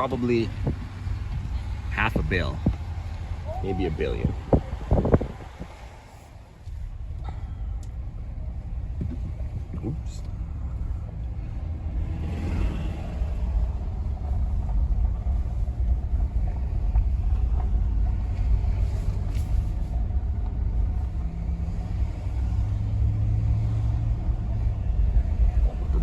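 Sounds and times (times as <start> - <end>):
vehicle motor rumbling: 0.0 - 26.0.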